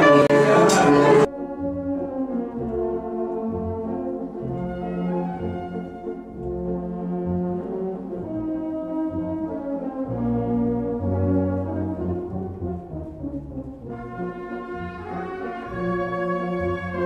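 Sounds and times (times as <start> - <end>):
orchestral brass music: 0.0 - 17.0.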